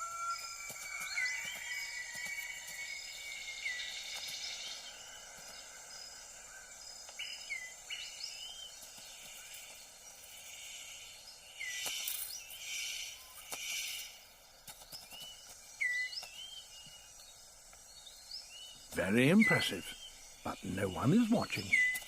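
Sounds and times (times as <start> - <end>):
bird chirps: 0.0 - 22.0
high insect drone: 0.0 - 22.0.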